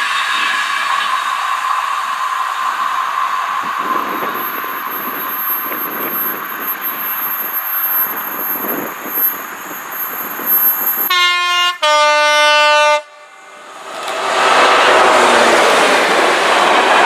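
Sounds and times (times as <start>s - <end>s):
train rushing rail noise: 0.0s - 17.0s.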